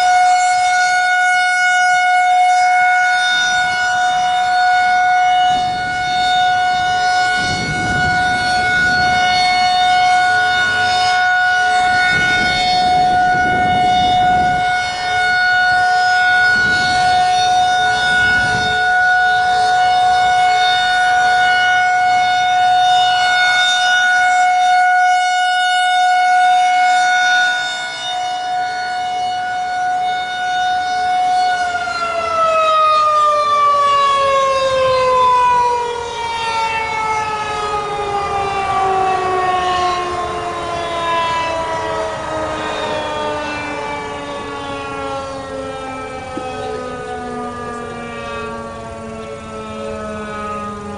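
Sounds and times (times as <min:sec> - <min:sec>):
outdoor warning siren: 0:00.0 - 0:50.9.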